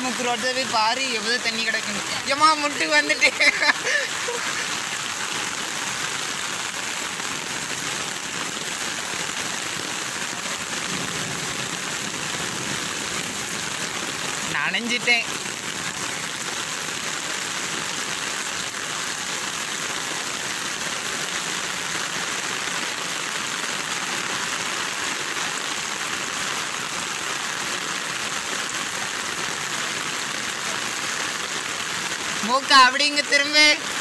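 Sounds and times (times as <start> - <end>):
heavy rain on flooded street: 0.0 - 34.0.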